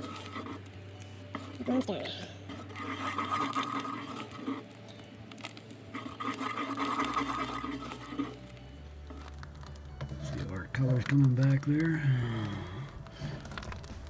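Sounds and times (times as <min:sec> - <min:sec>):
spoon stirring bubbling stew: 0:00.0 - 0:11.8.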